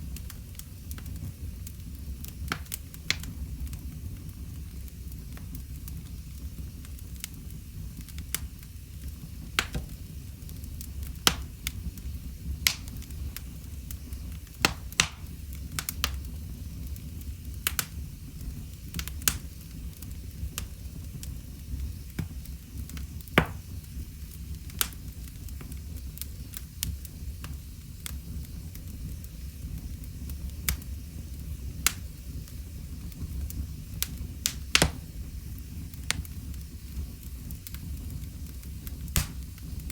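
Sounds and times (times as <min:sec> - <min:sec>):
fire popping: 0:00.0 - 0:39.9
low rumble of flames: 0:00.0 - 0:39.9
wood fire crackling: 0:00.0 - 0:39.9.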